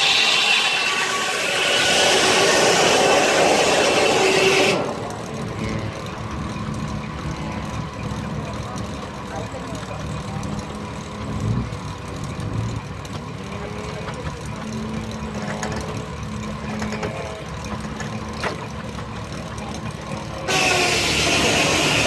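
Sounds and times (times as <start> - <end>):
steam traction engine running: 0.0 - 22.0.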